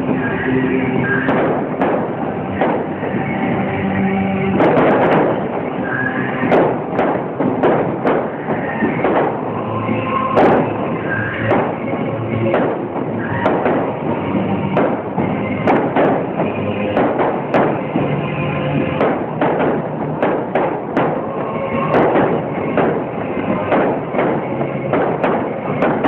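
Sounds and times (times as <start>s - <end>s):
fireworks bursting: 0.0s - 26.0s
music playing: 0.0s - 26.0s.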